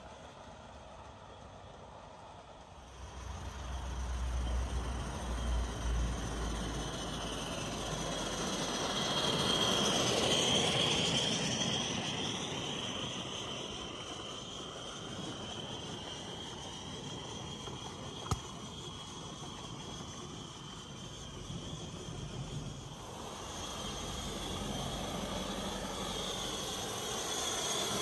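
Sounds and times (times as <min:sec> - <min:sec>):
model steam train passing: 0:00.0 - 0:28.0.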